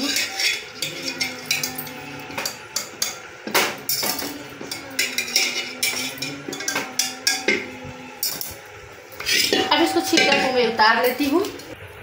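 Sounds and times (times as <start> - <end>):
metal ladle clinking on pots: 0.0 - 8.6, 9.2 - 11.4.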